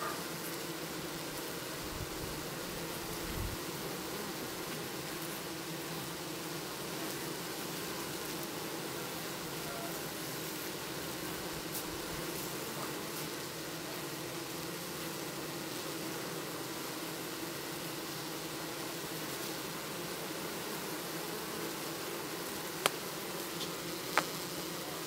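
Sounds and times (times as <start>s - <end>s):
constant hiss: 0.0s - 25.0s
honeybees buzzing: 0.0s - 25.0s.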